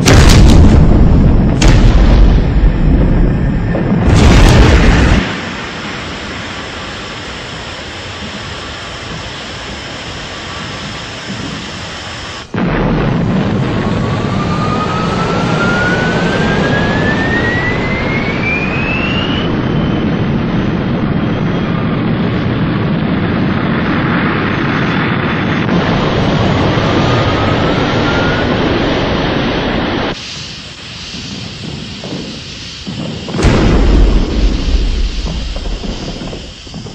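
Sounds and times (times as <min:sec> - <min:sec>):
jet engines roaring: 0:00.0 - 0:36.9
rising whine: 0:01.2 - 0:36.9.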